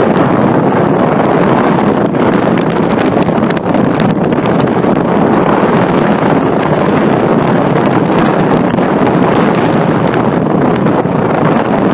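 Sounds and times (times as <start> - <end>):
wind on microphone: 0.0 - 11.9.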